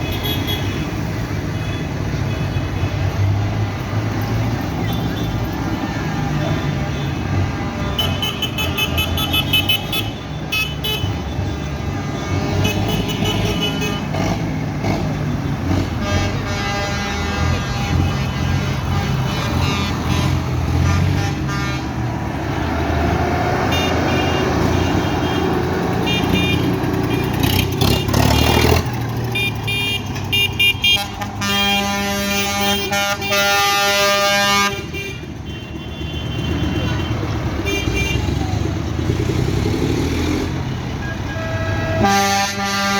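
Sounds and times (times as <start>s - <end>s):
horns tooting: 0.0s - 42.9s
tractor engines driving past: 0.0s - 42.9s.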